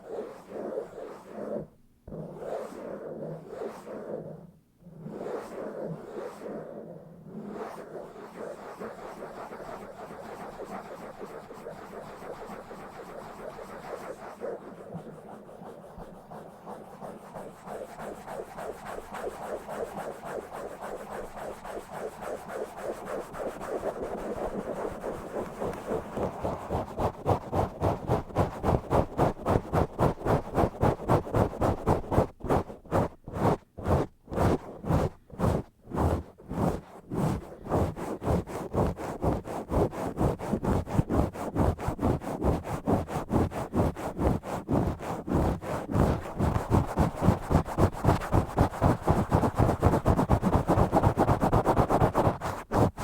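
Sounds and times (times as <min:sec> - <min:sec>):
hand scratching on microphone: 0:00.0 - 0:53.0.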